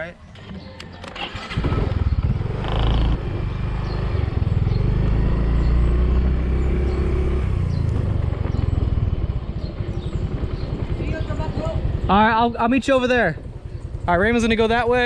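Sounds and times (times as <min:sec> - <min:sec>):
scooter engine pulling away: 0:01.0 - 0:15.0.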